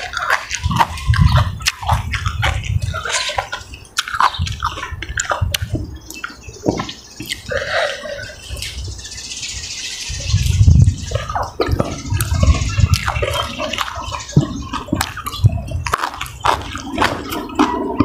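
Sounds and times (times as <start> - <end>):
wet chewing and lip-smacking: 0.0 - 9.2, 9.9 - 18.0.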